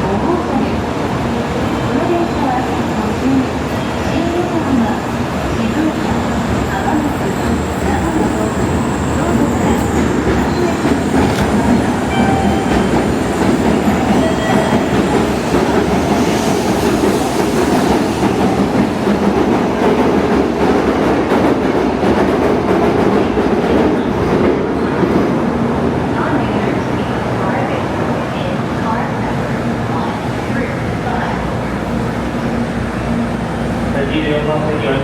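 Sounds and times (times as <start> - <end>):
train running noise: 0.0 - 35.0.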